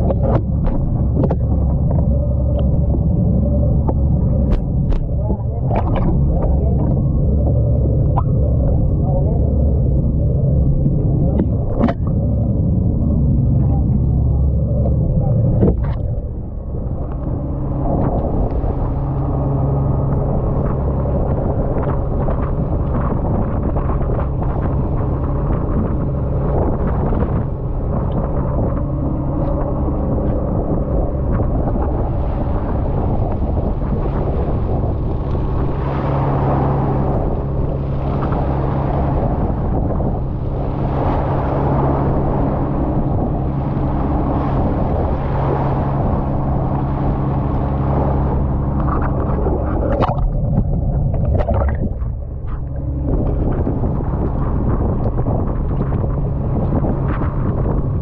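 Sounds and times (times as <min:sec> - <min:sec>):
boat engine humming: 0:00.0 - 0:58.0
wind buffeting microphone: 0:00.0 - 0:58.0.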